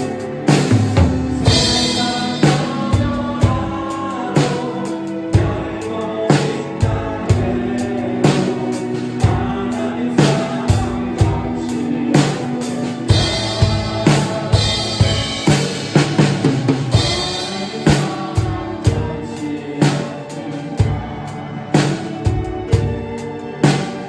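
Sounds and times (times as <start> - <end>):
drum kit playing: 0.0 - 24.0
worship song backing track: 0.0 - 24.0.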